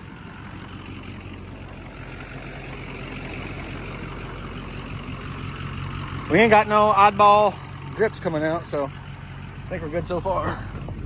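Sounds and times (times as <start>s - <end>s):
diesel engine running at low revs: 0.0s - 11.0s
tires spinning on ice: 0.0s - 11.0s.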